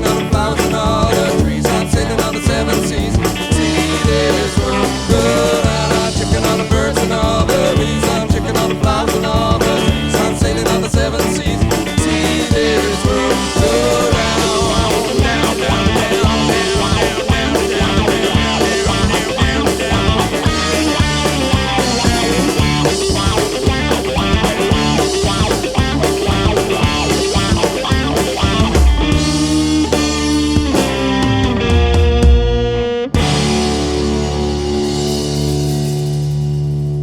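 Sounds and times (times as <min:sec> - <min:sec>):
rock band with guitars and drums: 0:00.0 - 0:37.0.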